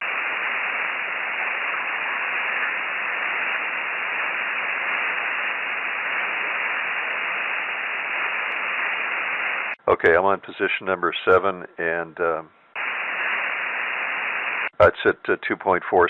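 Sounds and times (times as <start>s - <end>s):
radio receiver band noise hiss: 0.0s - 16.0s.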